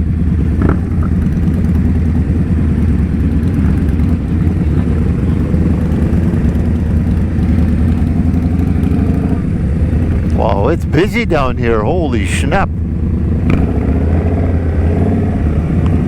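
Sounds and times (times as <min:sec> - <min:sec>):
motorcycle engine low rumble: 0:00.0 - 0:16.0.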